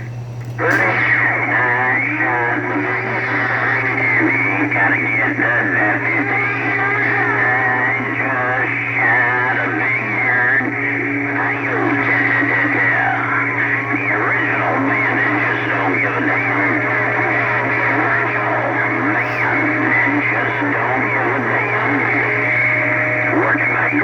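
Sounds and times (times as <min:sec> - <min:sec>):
radio hum and hiss: 0:00.0 - 0:24.0
garbled radio voices: 0:00.6 - 0:24.0
radio whistling tones: 0:00.6 - 0:24.0.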